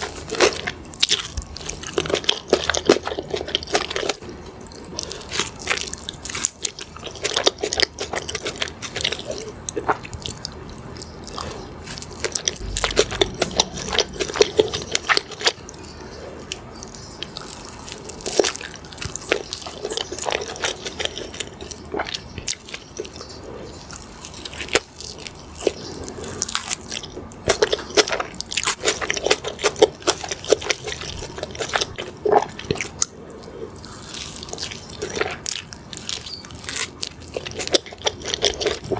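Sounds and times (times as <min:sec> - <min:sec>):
chewing crispy burger crunches: 0:00.0 - 0:38.9.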